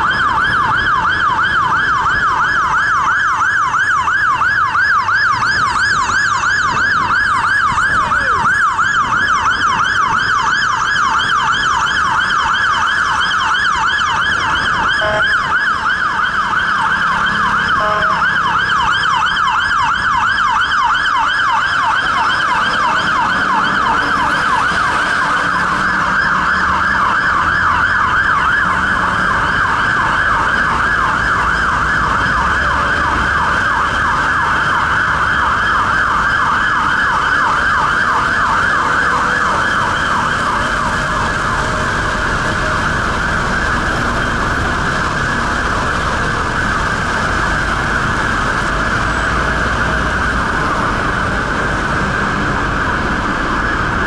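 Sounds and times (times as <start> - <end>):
fire engine siren yelping: 0.0 - 54.0.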